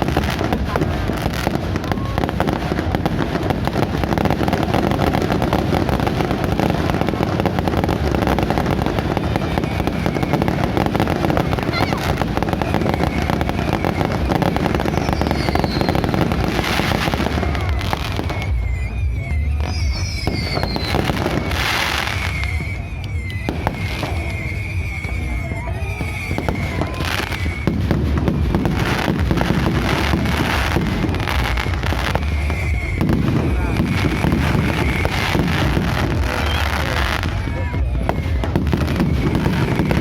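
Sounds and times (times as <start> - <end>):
fireworks bangs and crackling: 0.0 - 40.0
fireworks falling whistles: 0.0 - 40.0.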